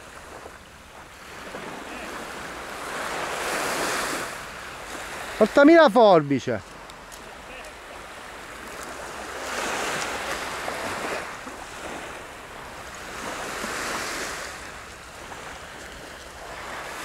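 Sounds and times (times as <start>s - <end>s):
small waves washing: 0.0s - 17.0s.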